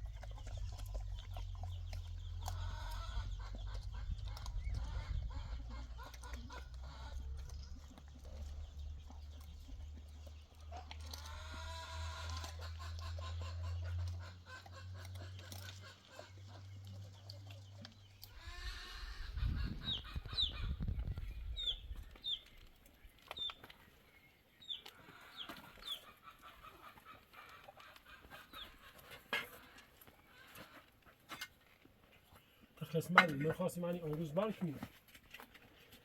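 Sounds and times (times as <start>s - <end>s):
chickens clucking: 0.0s - 36.0s.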